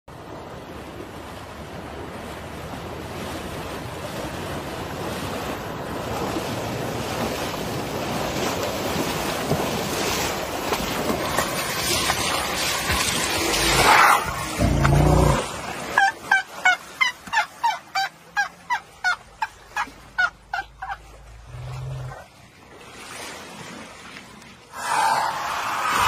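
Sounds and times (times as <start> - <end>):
elephants splashing through water: 0.2 - 26.0.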